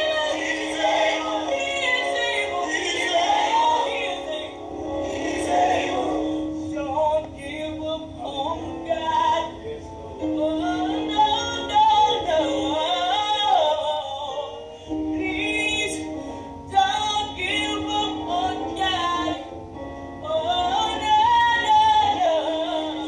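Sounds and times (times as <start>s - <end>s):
woman singing: 0.0s - 4.6s, 6.6s - 9.6s, 10.2s - 19.5s, 20.2s - 23.0s
instrumental held chords: 0.0s - 23.0s.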